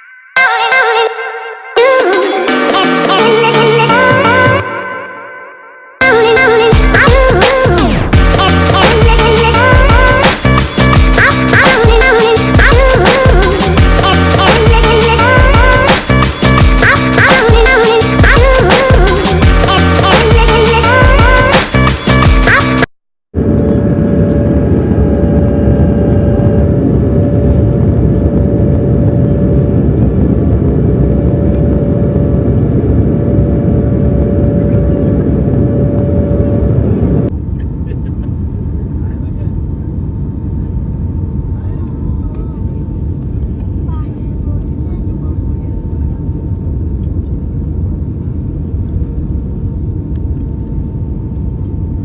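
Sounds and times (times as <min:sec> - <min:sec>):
steady engine whine: 0:06.0 - 0:52.0
aircraft engines and airflow: 0:06.7 - 0:52.0.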